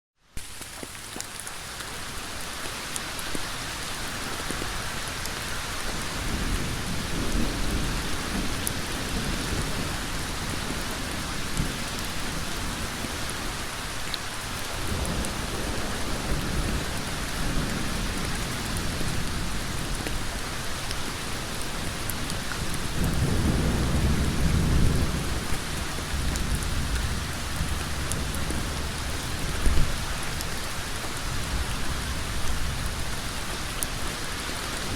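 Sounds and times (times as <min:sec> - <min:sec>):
heavy rain on a road: 0:00.4 - 0:34.9.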